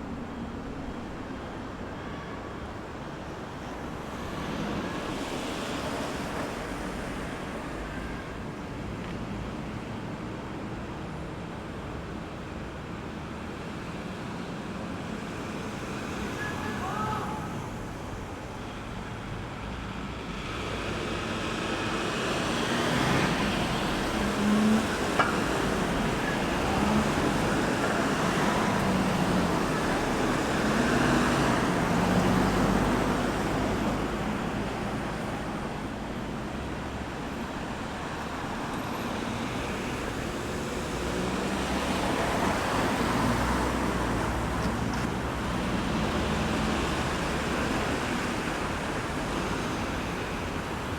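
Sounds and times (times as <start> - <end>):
cars and buses passing: 0.0 - 50.9.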